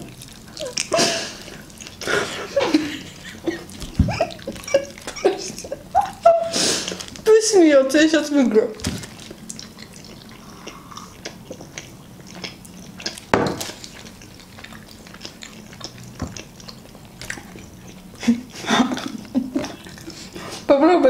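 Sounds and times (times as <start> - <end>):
people chewing sticky food: 0.0 - 20.7.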